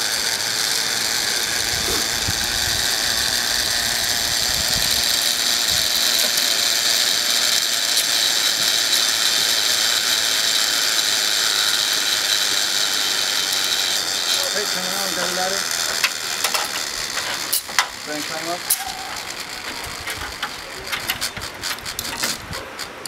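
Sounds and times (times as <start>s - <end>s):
zipline pulleys whirring on cable: 0.0s - 23.0s.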